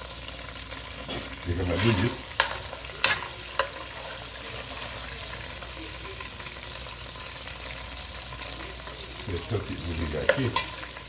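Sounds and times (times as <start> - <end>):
ribs sizzling in a frying pan: 0.0 - 11.0.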